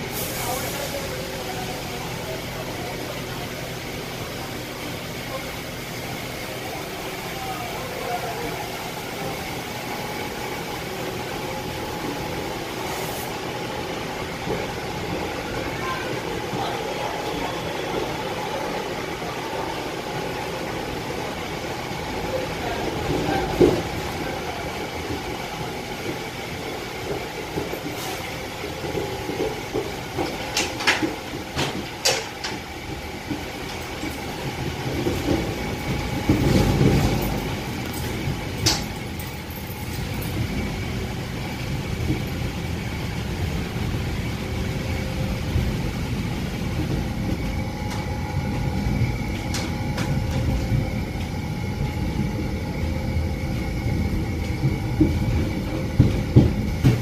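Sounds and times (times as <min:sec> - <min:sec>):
train coach rumbling on rails: 0:00.0 - 0:57.0.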